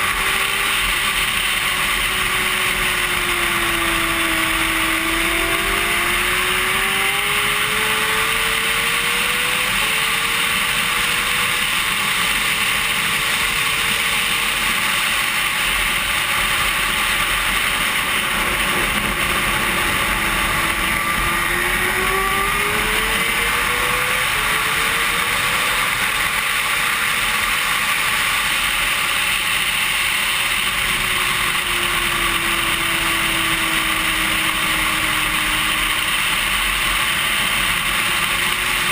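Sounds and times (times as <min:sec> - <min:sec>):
sport bike engine upshifting: 0:00.0 - 0:38.9.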